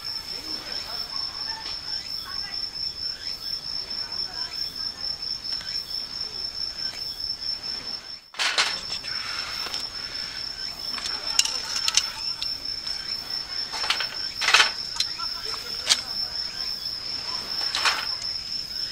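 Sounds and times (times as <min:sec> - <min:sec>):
insect trilling: 0:00.0 - 0:18.9.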